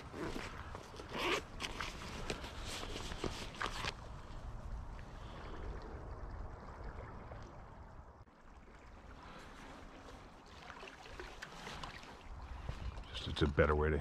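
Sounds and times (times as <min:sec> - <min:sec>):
river water flowing: 0:00.0 - 0:13.8.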